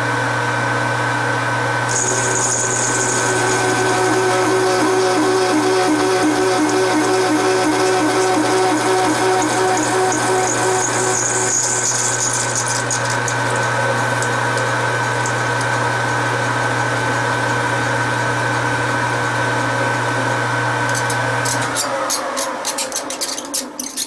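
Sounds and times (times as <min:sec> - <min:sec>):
motor hum and whine: 0:00.0 - 0:24.0
metal lathe cutting: 0:01.9 - 0:24.0.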